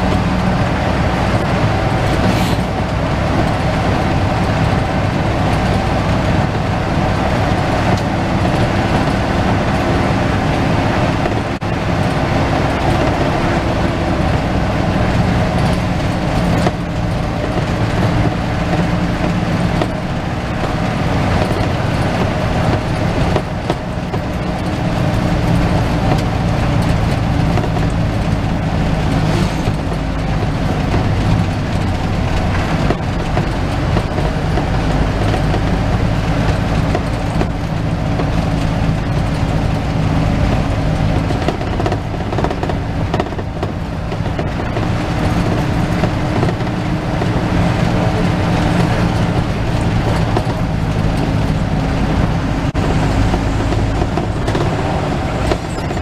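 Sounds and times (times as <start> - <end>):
bus engine running: 0.0 - 56.0
road and body rumble: 0.0 - 56.0.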